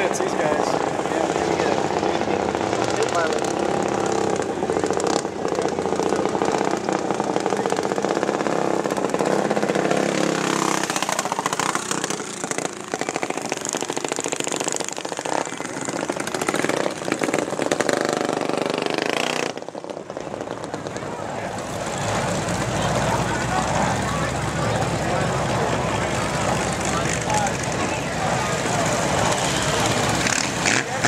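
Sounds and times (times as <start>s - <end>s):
small engines revving: 0.0s - 31.0s.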